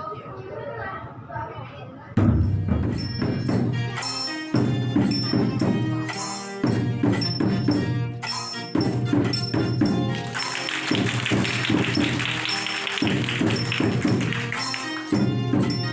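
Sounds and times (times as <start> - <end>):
jingling percussion: 2.2 - 15.9
instrumental music with beat: 2.3 - 15.9.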